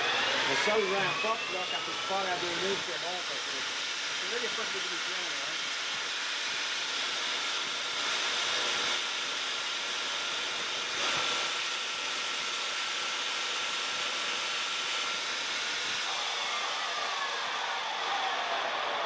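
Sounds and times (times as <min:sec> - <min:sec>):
metal lathe cutting: 0:00.0 - 0:19.0.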